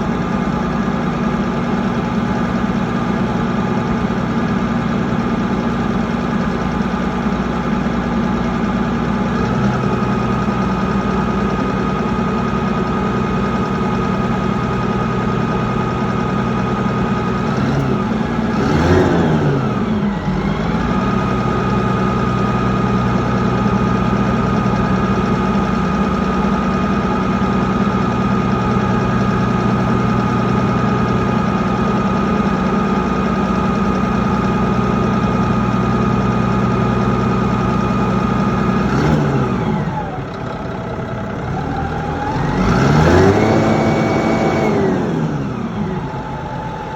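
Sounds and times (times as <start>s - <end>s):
diesel engine idling and revving: 0.0s - 46.9s.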